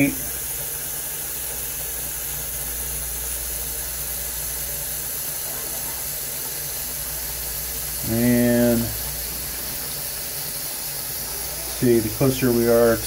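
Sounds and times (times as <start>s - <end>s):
tap water running into a sink: 0.0s - 13.0s.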